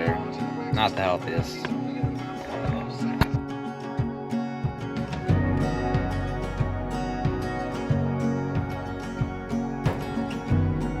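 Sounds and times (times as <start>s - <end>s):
plucked string background music: 0.0s - 11.0s.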